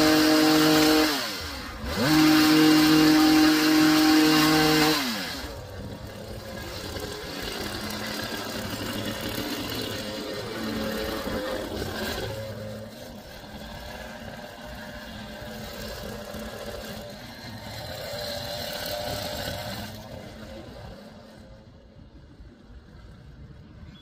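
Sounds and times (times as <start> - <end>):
hedge trimmer running and cutting: 0.0 - 21.6.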